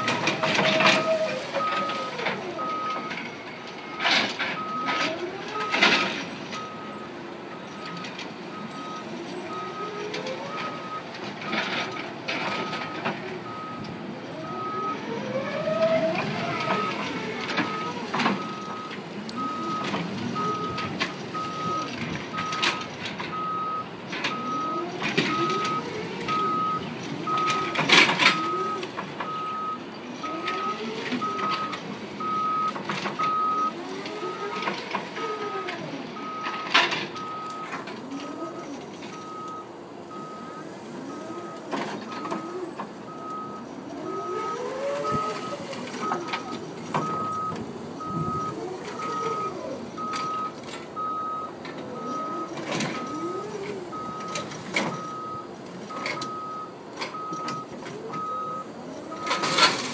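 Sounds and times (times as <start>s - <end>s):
forklift warning beeper: 0.0s - 59.9s.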